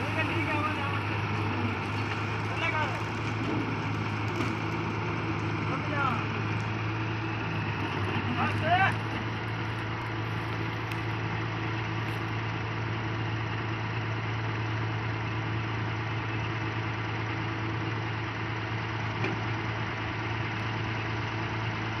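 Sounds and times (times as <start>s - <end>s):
combine harvester machinery drone: 0.0s - 22.0s.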